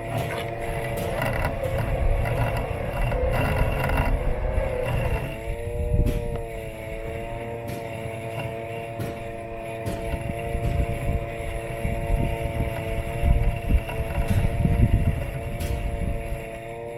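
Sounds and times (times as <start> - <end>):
electric motors whining: 0.0 - 16.9
mower rolling on grass: 0.0 - 16.9.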